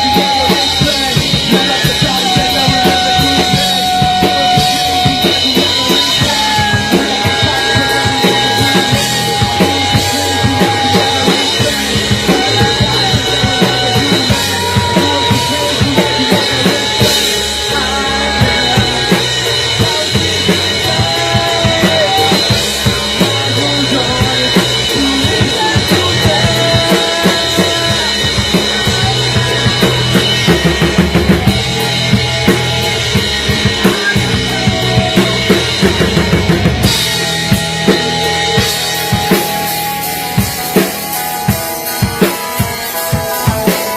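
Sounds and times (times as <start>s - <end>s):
low bass notes: 0.0s - 43.9s
rock drum beat: 0.0s - 43.9s.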